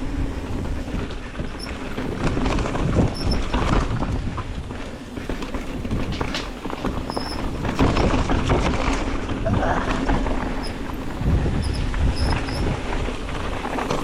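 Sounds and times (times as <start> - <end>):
wind on microphone: 0.0 - 4.8, 5.6 - 14.0
bike rattling on dirt trail: 0.0 - 14.0.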